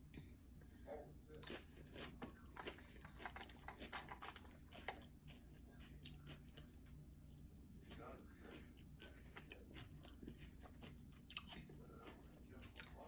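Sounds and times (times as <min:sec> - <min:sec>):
chewing crunchy chips: 0:01.3 - 0:13.0.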